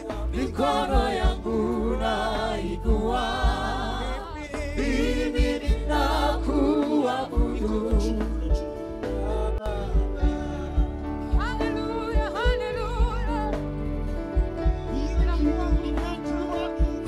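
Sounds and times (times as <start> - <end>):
choir singing gospel: 0.0 - 15.3
bass line: 0.0 - 17.0
regular beat: 0.0 - 17.0.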